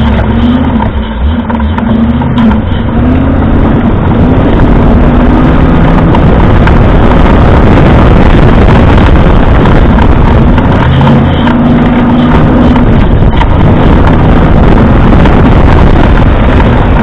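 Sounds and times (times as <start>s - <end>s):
car engine running hard: 0.0s - 17.0s
tyres working through mud and water: 0.0s - 17.0s.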